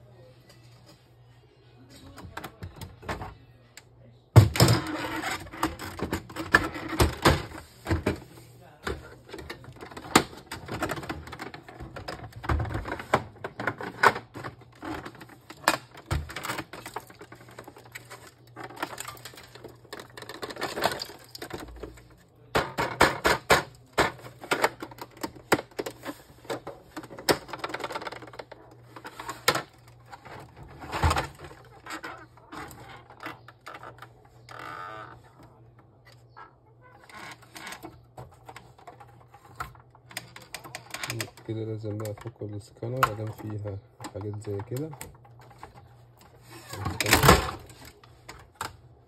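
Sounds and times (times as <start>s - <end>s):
plastic casing clicking and rattling: 8.8s - 34.8s, 35.4s - 48.9s.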